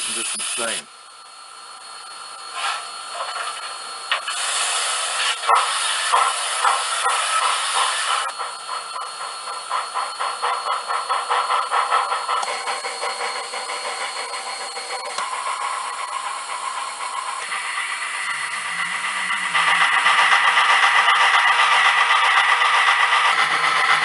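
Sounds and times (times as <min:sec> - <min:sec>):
steam hiss: 0:00.0 - 0:00.9, 0:02.5 - 0:24.0
steam locomotive chuffs: 0:00.0 - 0:00.9, 0:01.8 - 0:24.0.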